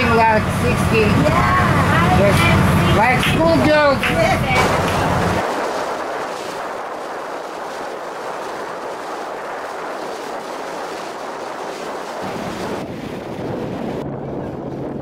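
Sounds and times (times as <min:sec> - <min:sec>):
choppy water washing against boat: 0:00.0 - 0:15.0
low rumble: 0:00.0 - 0:15.0
wind rushing over microphone: 0:00.0 - 0:15.0.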